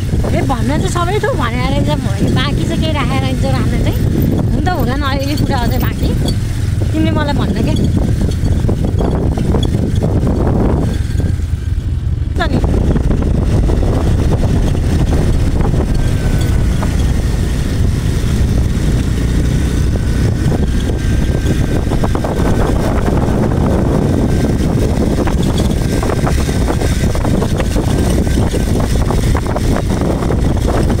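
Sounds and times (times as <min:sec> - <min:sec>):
motorcycle engine running: 0:00.0 - 0:31.0
wind rumble on microphone: 0:00.0 - 0:31.0.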